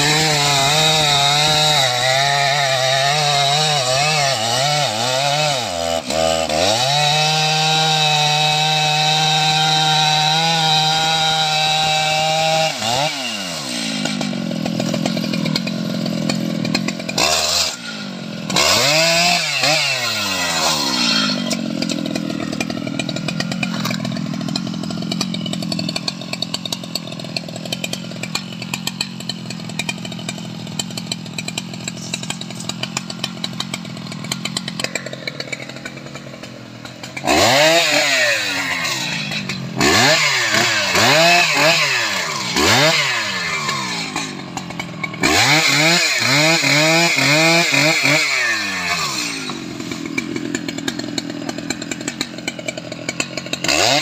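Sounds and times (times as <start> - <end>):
chainsaw cutting log: 0.0 - 54.0
chainsaw idling: 0.0 - 54.0.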